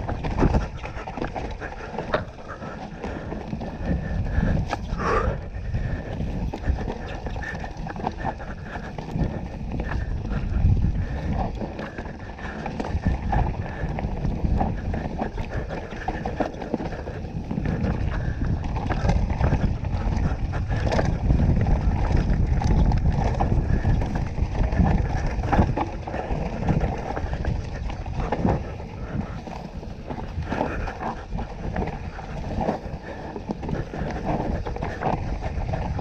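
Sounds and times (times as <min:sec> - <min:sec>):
tyres rumbling over dirt and rock: 0:00.0 - 0:36.0
wind buffeting microphone: 0:00.0 - 0:36.0
bike knocking and clattering: 0:05.6 - 0:35.9.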